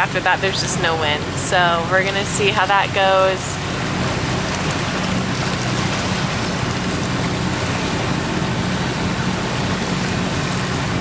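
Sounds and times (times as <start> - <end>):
boat engine humming: 0.0 - 11.0
water rushing along hull: 0.0 - 11.0.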